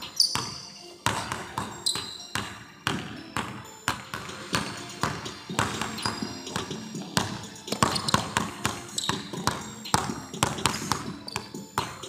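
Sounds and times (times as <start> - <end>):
basketball bouncing on wooden floor: 0.1 - 12.0.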